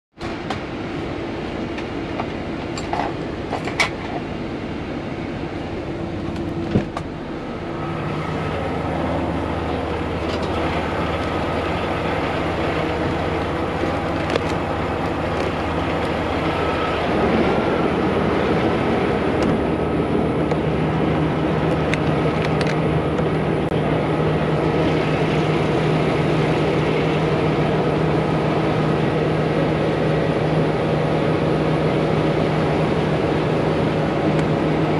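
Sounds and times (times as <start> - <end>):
truck diesel engine idling: 0.9 - 34.9.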